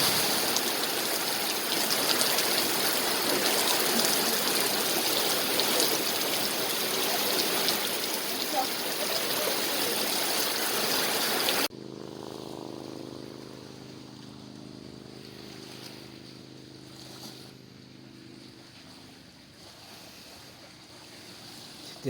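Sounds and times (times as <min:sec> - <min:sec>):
distant motor drone: 0:00.0 - 0:22.0.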